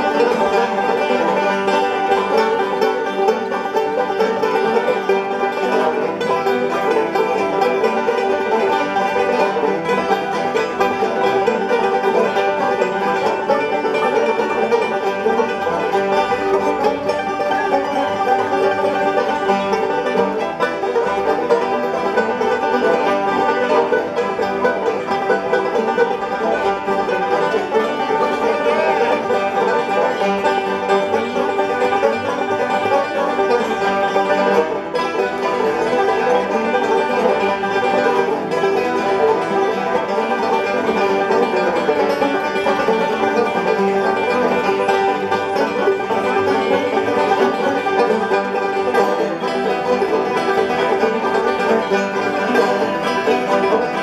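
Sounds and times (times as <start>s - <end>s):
banjo ensemble playing bluegrass: 0.0s - 54.0s.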